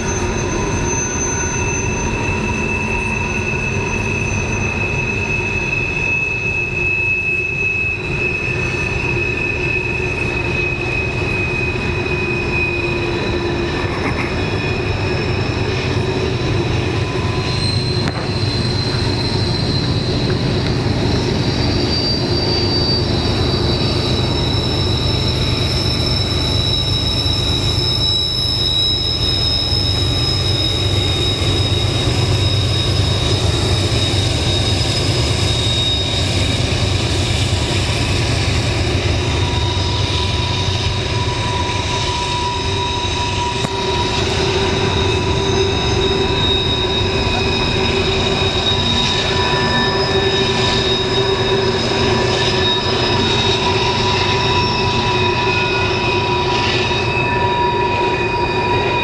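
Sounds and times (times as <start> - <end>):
low rolling rumble of train: 0.0 - 59.0
train wheels squealing: 0.0 - 59.0.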